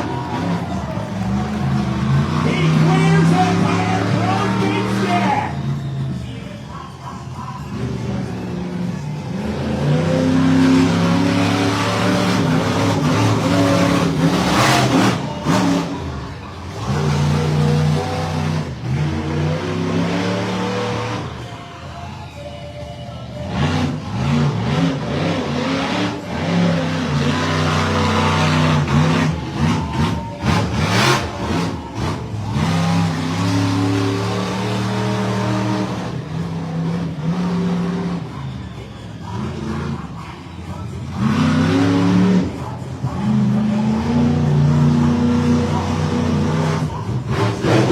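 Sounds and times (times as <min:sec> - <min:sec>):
monster truck engine revving: 0:00.0 - 0:22.5, 0:23.1 - 0:47.9.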